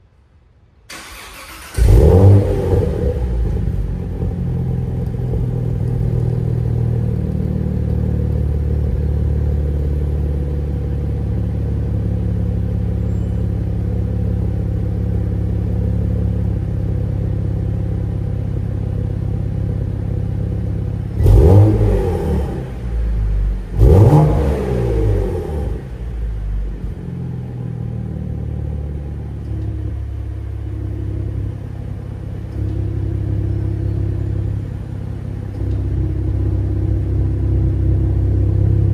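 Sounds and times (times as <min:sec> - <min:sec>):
car engine idling: 0:00.9 - 0:38.9
engine throttle blips: 0:00.9 - 0:38.9.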